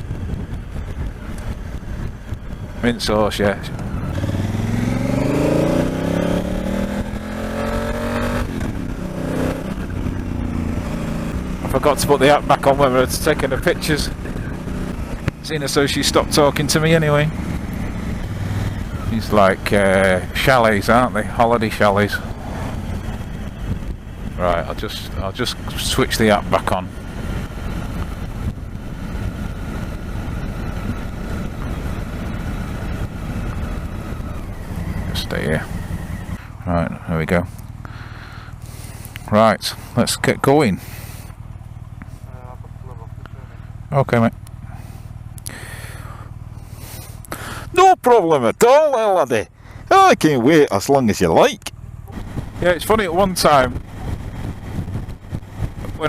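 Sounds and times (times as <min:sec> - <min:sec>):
motorcycle engine accelerating: 0:00.0 - 0:48.9, 0:49.5 - 0:56.0
road or wind noise: 0:00.0 - 0:56.0.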